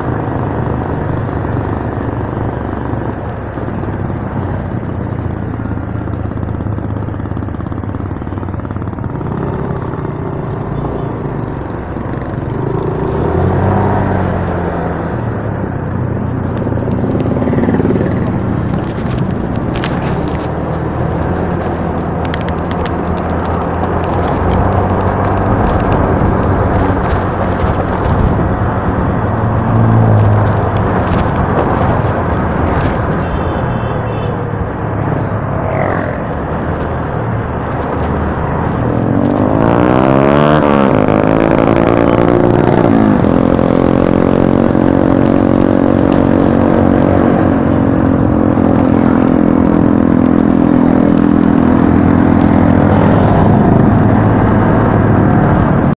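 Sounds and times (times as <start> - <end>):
road noise: 0.0 - 56.0
motorcycle engine running: 0.1 - 55.9.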